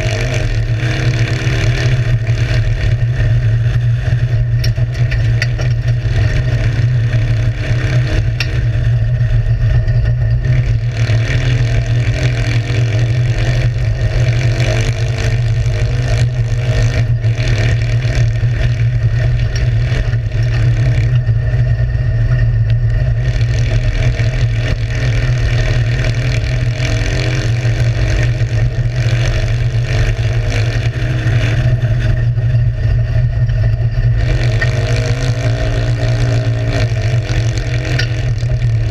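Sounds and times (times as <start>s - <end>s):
car engine revving: 0.0s - 38.9s
low rumble: 0.0s - 38.9s.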